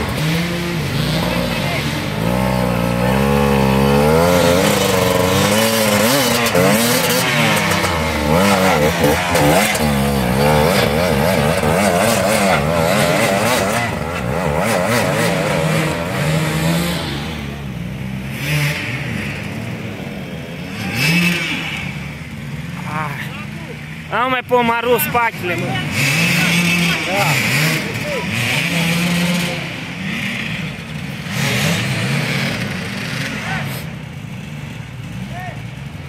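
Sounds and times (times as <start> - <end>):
dirt bike engine revving: 0.0 - 35.8.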